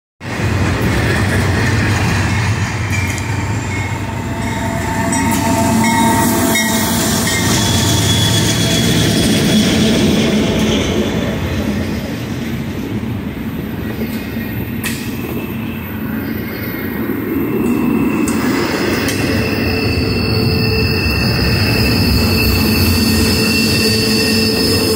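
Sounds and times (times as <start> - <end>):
diesel locomotives passing: 0.2 - 24.9.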